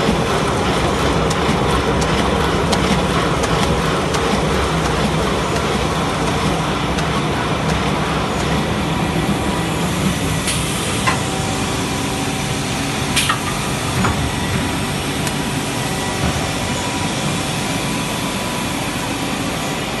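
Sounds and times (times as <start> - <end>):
wrapping machine humming: 0.0 - 20.0.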